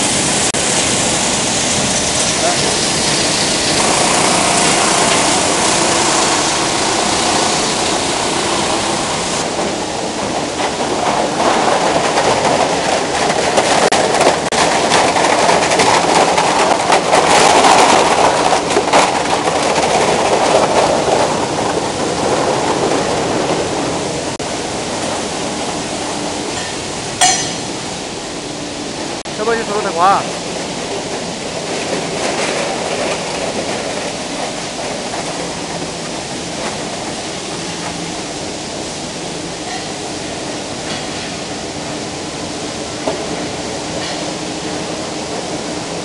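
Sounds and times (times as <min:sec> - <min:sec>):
recycling machinery rattling din: 0:00.0 - 0:46.0.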